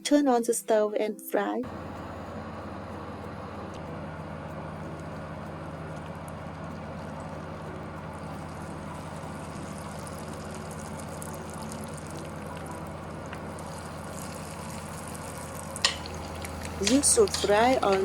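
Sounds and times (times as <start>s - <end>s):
low hum: 1.6s - 18.0s
food frying in hot oil: 1.7s - 18.0s.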